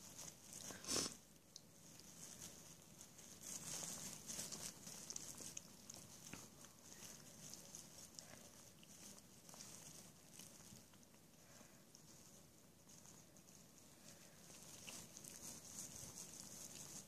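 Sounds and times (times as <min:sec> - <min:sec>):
puppies lapping and slurping: 0:00.0 - 0:17.0.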